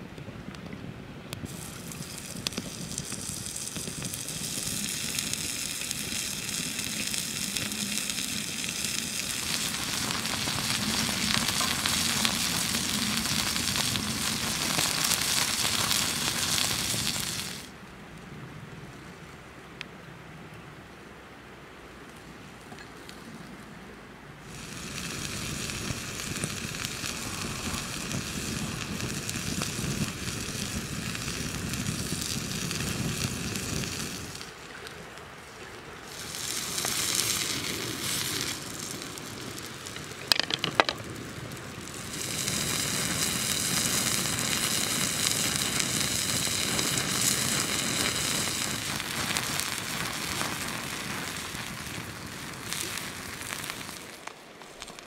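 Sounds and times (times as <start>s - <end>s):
wood fire crackling: 1.3s - 17.8s, 24.5s - 55.0s
meat sizzling on hot stone: 1.5s - 17.7s, 24.5s - 34.5s, 36.0s - 55.0s.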